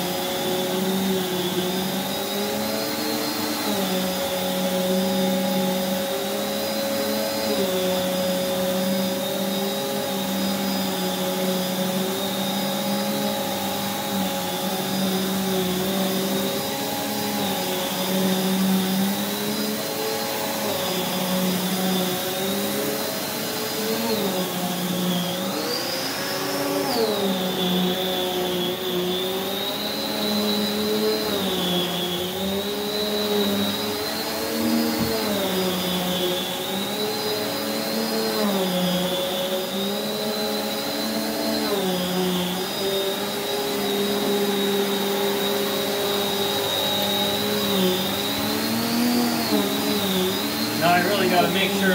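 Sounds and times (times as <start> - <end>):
vacuum cleaner motor whining: 0.0 - 51.9.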